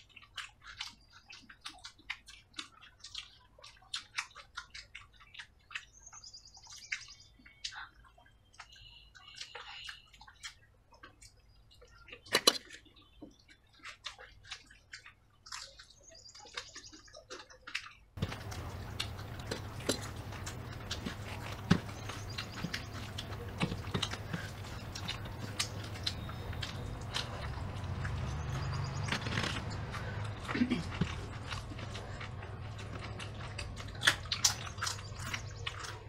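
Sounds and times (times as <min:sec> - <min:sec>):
wet chewing and squelching: 0:00.0 - 0:36.0.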